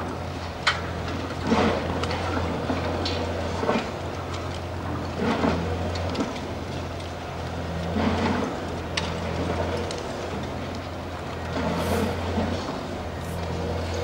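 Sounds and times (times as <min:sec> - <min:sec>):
diesel engine running: 0:00.0 - 0:14.0
concrete crunching and clattering: 0:00.6 - 0:14.0.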